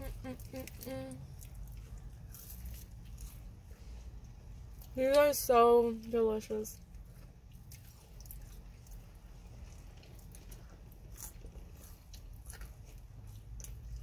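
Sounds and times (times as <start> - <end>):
person chewing fries: 0.0 - 5.0, 6.8 - 14.0
steady low hum: 0.0 - 14.0.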